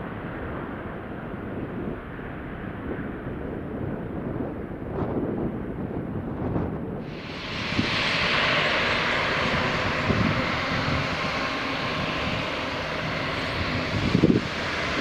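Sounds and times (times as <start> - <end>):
jet engines at takeoff: 0.0 - 15.0
wind on microphone: 0.0 - 15.0.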